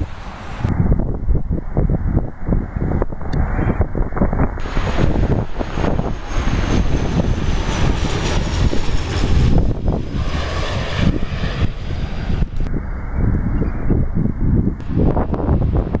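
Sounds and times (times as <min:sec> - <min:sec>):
jet airliner passing: 0:00.0 - 0:16.0
jet engine high whine: 0:00.0 - 0:16.0.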